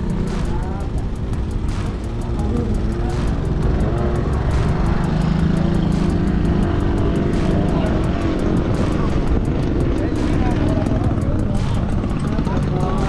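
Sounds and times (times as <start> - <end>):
speedboat engines running: 0.0 - 13.0.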